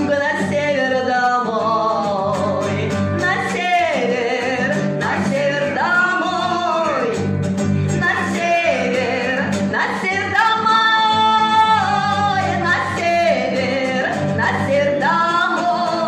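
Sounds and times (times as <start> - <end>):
woman singing wordless notes: 0.0 - 7.3, 7.9 - 16.0
strummed acoustic guitar: 0.0 - 16.0.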